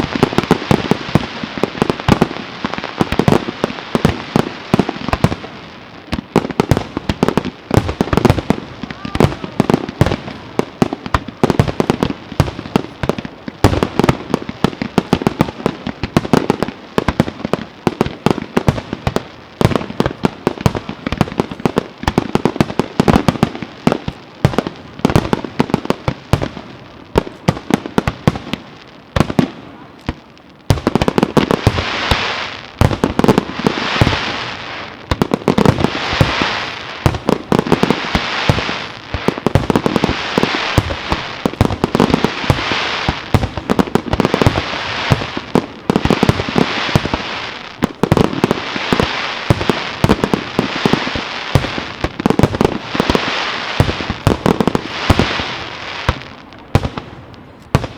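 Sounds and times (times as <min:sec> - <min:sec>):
fireworks bangs: 0:00.0 - 0:57.9
fireworks hissing: 0:00.0 - 0:57.9.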